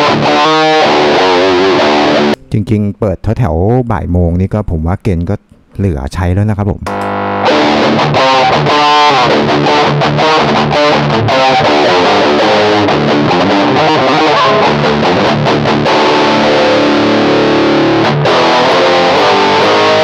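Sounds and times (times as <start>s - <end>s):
distorted electric guitar riff: 0.0s - 3.3s, 6.8s - 20.0s.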